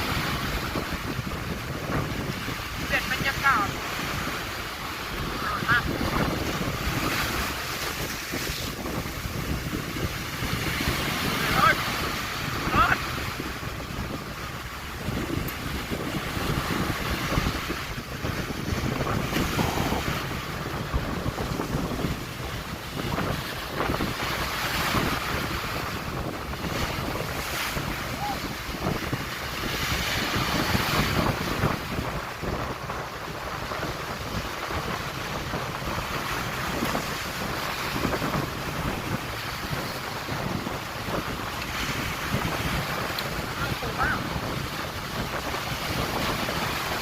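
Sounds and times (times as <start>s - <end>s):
sea water rushing: 0.0s - 47.0s
wind buffeting microphone: 0.0s - 47.0s.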